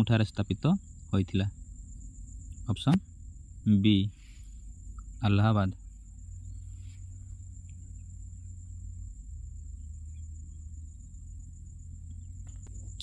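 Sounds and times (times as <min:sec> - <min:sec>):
faint high-pitched whine: 0:00.0 - 0:13.0
steady low hum: 0:00.0 - 0:13.0.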